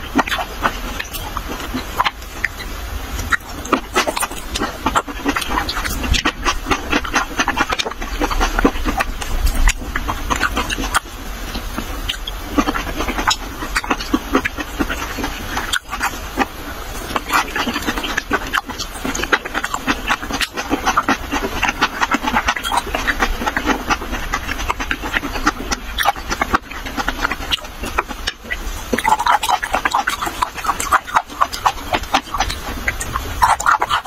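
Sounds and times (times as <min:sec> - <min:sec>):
chewing and wet mouth smacking: 0:00.0 - 0:34.0.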